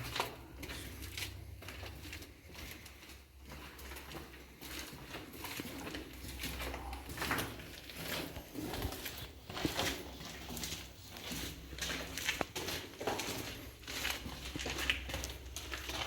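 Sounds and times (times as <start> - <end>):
footsteps scuffing and crunching: 0.0 - 16.0.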